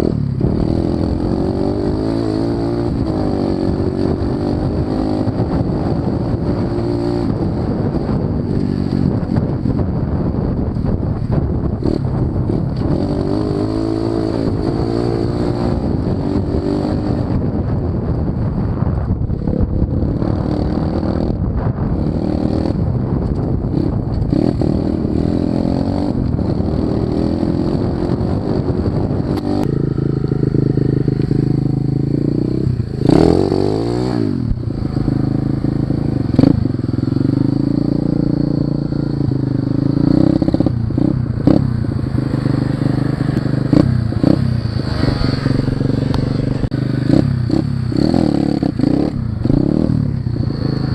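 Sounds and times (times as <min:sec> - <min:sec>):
pit bike engine revving: 0:00.0 - 0:09.9, 0:11.6 - 0:17.7, 0:23.6 - 0:50.9.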